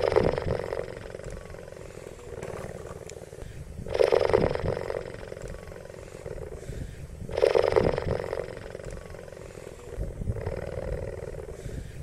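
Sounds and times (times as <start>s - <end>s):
quiet rumbling: 0.0s - 12.0s.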